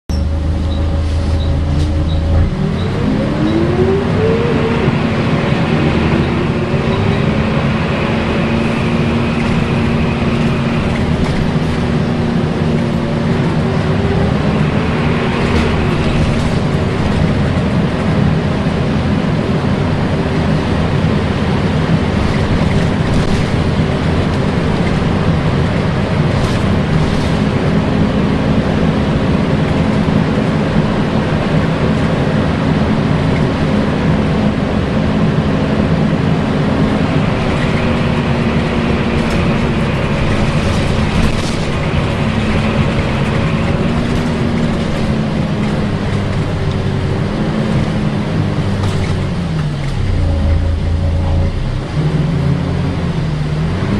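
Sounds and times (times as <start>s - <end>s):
bus engine running: 0.1s - 53.9s.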